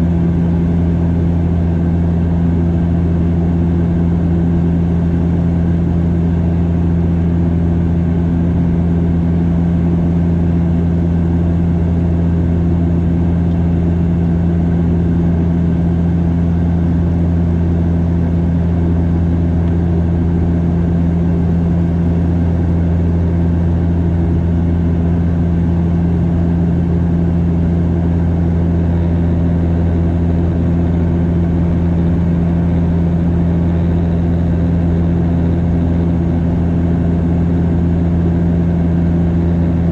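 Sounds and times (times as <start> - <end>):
propeller and engine drone: 0.0 - 39.9.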